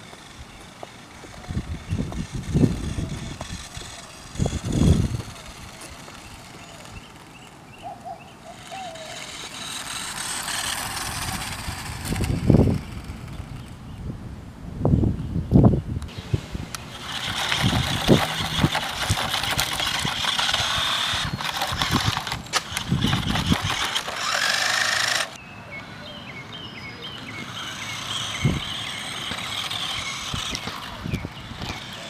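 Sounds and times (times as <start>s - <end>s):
toy car motor whirring: 0.0s - 14.0s, 16.7s - 25.4s, 27.2s - 32.0s
tyres crackling over ground: 0.0s - 14.0s, 16.1s - 25.4s, 27.1s - 32.0s
outdoor background: 0.0s - 32.0s.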